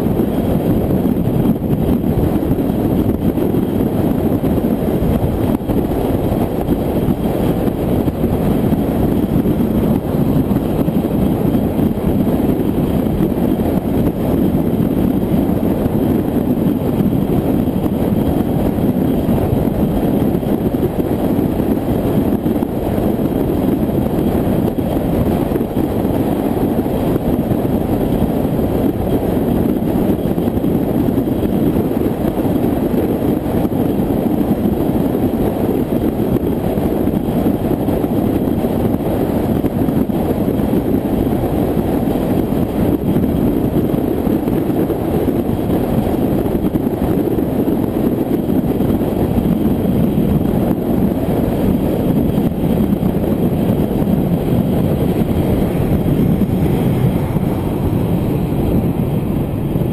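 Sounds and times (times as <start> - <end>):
car engine drone: 0.0 - 59.9
wind and road noise: 0.0 - 59.9.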